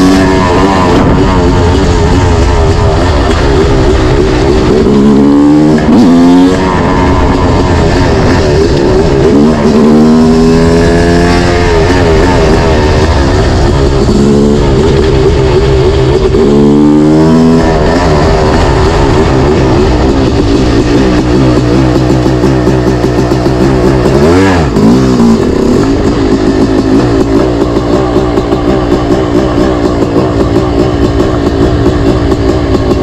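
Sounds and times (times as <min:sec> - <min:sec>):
two-stroke motorcycle engine revving: 0:00.0 - 0:33.0.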